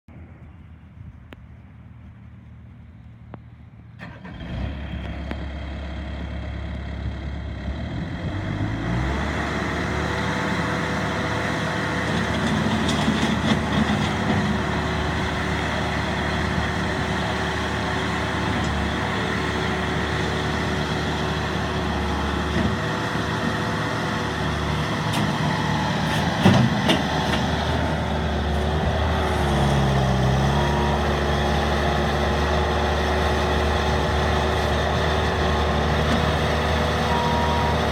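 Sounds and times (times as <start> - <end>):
diesel engine running: 1.7 - 37.9.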